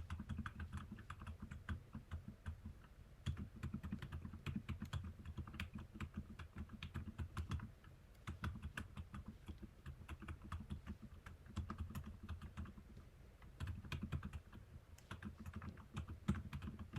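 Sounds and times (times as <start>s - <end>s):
soft muffled keyboard typing: 0.0s - 16.9s.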